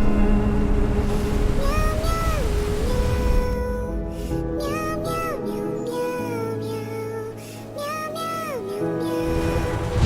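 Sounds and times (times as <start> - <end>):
background music with sustained chords: 0.0 - 10.0.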